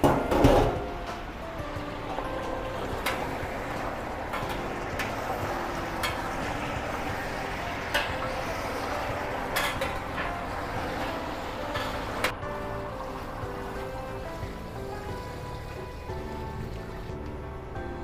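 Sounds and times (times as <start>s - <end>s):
meat sizzling in oil: 1.8s - 17.4s.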